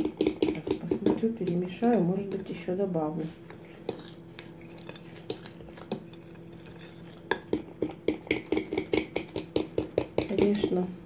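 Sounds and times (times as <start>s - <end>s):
low steady hum: 0.0s - 11.0s
utensil stirring batter in glass bowl: 0.0s - 11.0s.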